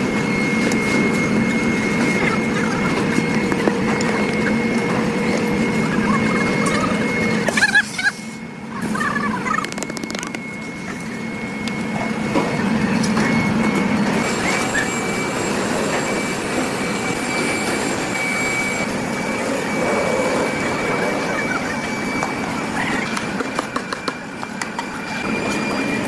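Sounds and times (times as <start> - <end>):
high continuous whine: 0.0 - 26.0
machinery noise: 0.0 - 26.0.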